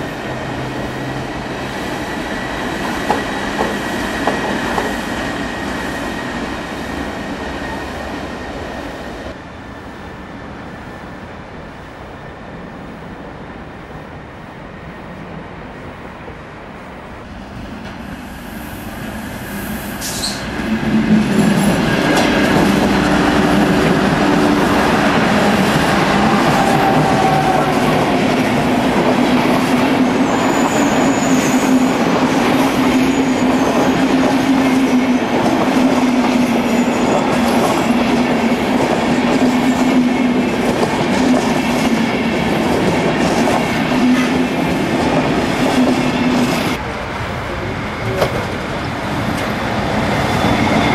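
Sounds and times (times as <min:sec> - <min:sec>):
train moving along tracks: 0:00.0 - 0:50.9.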